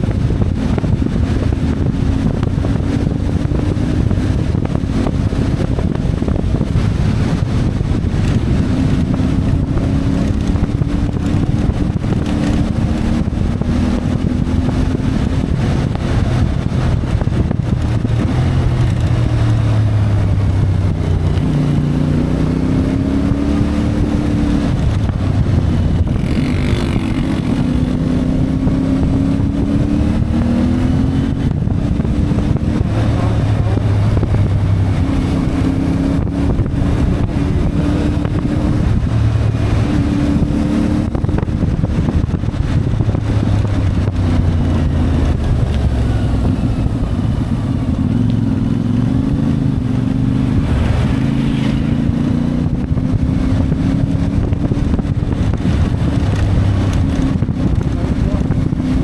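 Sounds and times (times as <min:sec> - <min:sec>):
motorcycle engine revving: 0:00.0 - 0:59.0
wind noise on microphone: 0:00.0 - 0:59.0.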